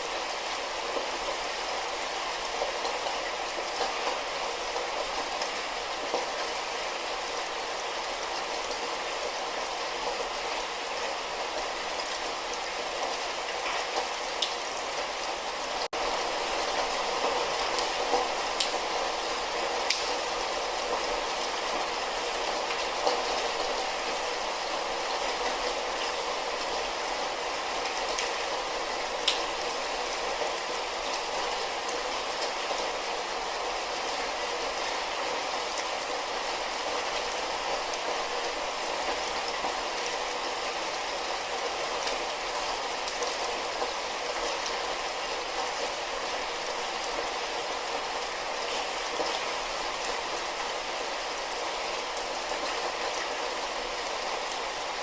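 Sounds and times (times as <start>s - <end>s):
light rain hiss: 0.0s - 55.0s
raindrops ticking and dripping: 0.0s - 55.0s.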